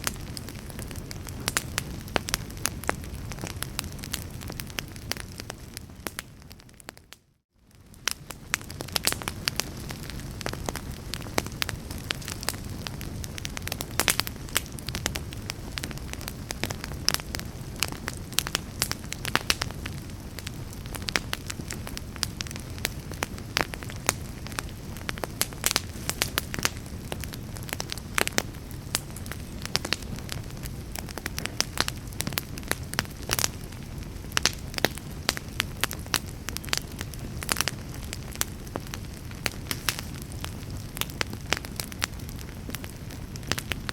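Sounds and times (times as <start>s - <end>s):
low rush of flame: 0.0s - 6.9s, 7.7s - 43.9s
fire crackling and popping: 0.0s - 43.9s.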